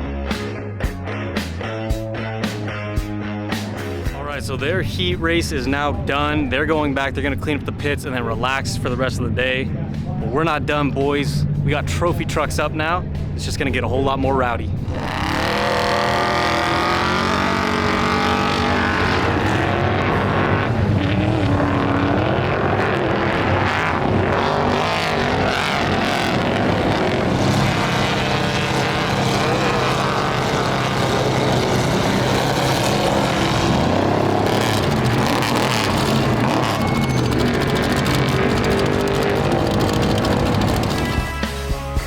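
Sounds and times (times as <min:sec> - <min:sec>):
race truck engines revving: 0:03.6 - 0:41.4.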